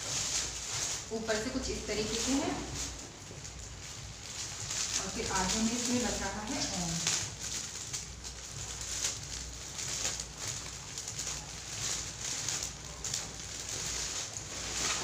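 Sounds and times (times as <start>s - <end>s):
heavy curtain rustling: 0.0s - 15.0s.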